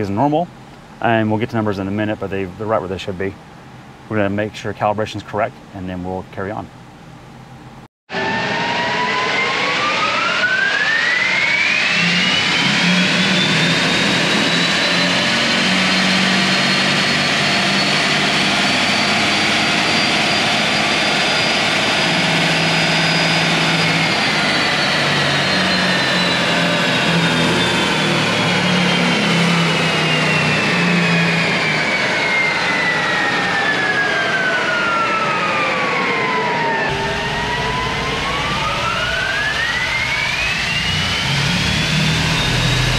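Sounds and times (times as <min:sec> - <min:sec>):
electric motors whining: 0:08.2 - 0:42.9.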